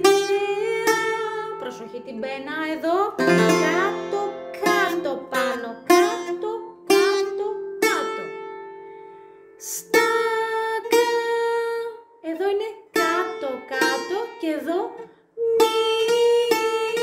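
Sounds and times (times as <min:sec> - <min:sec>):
bouzouki melody: 0:00.0 - 0:17.0.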